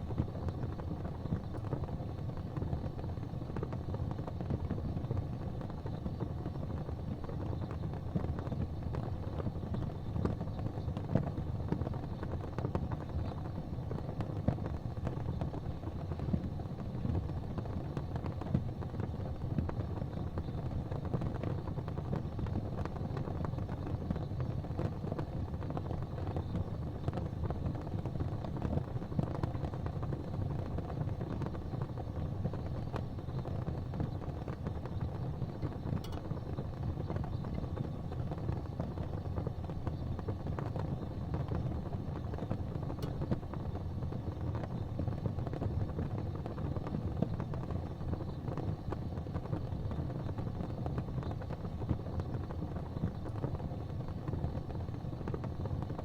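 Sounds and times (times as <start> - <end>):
gas fire rumbling: 0.0 - 56.0
small fire pops: 0.0 - 56.0.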